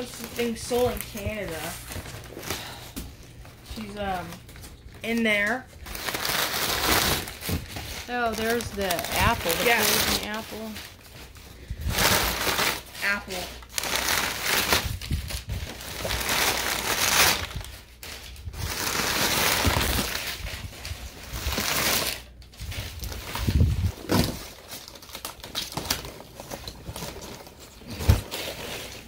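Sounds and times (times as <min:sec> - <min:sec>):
packing paper rustling: 0:00.0 - 0:29.0.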